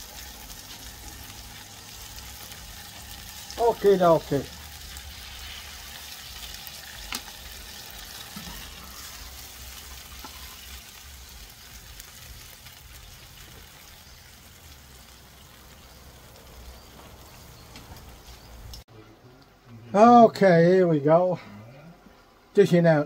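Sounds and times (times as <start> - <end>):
chips deep-frying in oil: 0.0 - 18.8.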